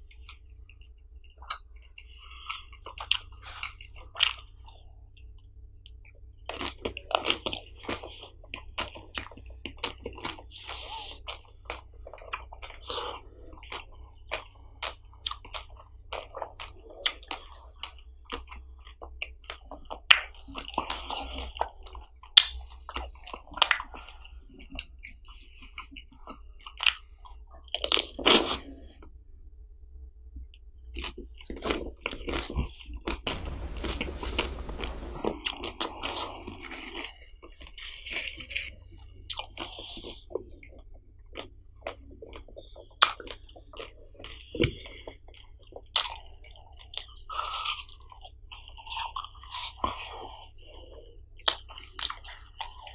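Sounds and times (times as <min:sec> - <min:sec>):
biting and chewing ice cream: 0:00.0 - 0:29.2, 0:30.4 - 0:33.0, 0:37.4 - 0:52.9.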